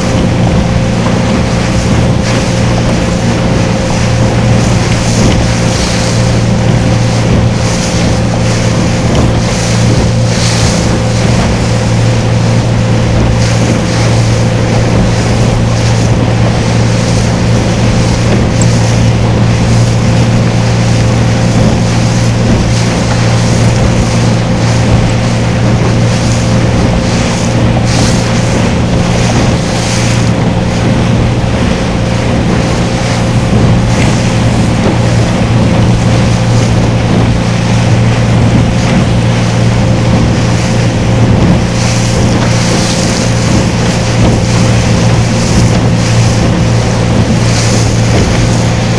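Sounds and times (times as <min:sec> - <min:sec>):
boat engine running: 0:00.0 - 0:48.9
wind on microphone: 0:00.0 - 0:48.9.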